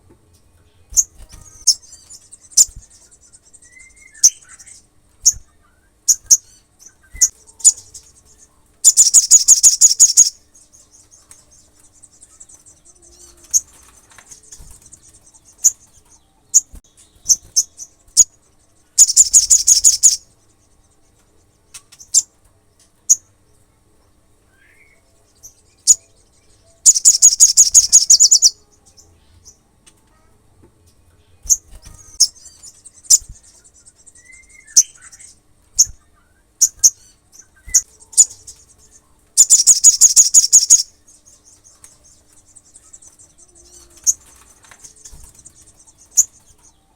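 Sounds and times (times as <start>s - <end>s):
bird chirps: 0.7s - 23.6s, 24.5s - 30.3s, 31.3s - 46.9s
rapid bird trill: 0.9s - 22.3s, 24.6s - 28.8s, 31.4s - 46.9s.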